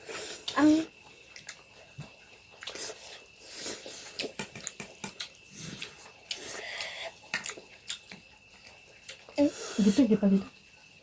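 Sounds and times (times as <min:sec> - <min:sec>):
slurping and chewing: 0:00.0 - 0:10.0.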